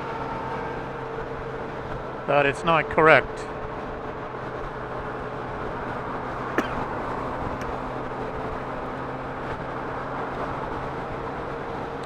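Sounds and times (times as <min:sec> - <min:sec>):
motorcycle engine hum: 0:00.0 - 0:12.0
wind and road noise: 0:00.0 - 0:12.0.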